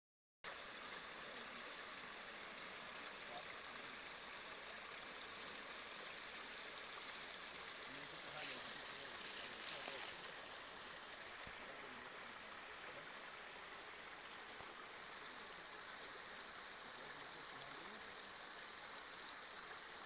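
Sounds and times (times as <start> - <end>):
creek water rushing over stones: 0.5 - 20.0.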